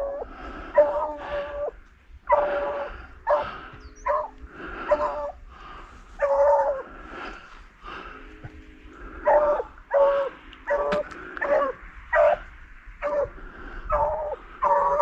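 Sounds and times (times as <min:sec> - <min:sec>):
dog baying: 0:00.0 - 0:01.7, 0:02.3 - 0:05.4, 0:06.1 - 0:07.0, 0:08.4 - 0:15.0.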